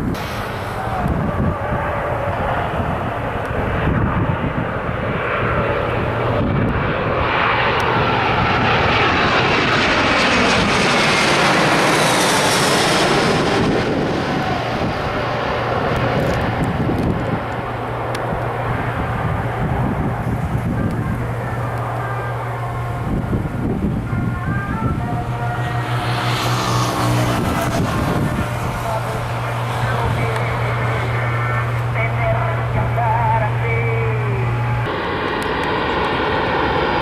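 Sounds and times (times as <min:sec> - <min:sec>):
jet airliner passing: 0:00.0 - 0:37.0
jet engine whine sliding down: 0:00.0 - 0:37.0.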